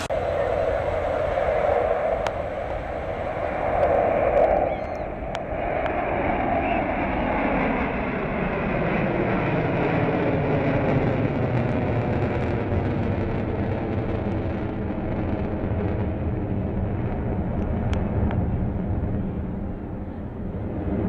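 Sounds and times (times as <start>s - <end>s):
jet engines flying overhead: 0.0s - 21.0s.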